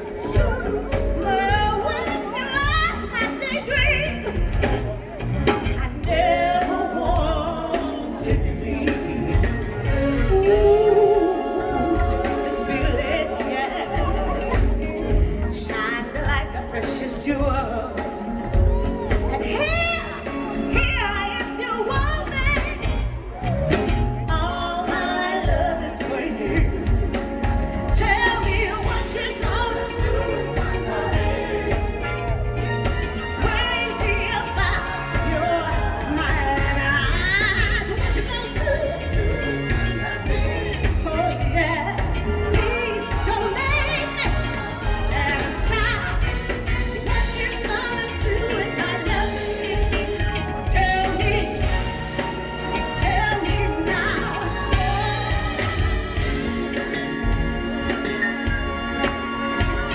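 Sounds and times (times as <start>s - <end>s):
woman singing with vibrato: 0.0s - 4.5s, 5.6s - 59.9s
bass: 0.0s - 59.9s
drums: 0.0s - 59.9s.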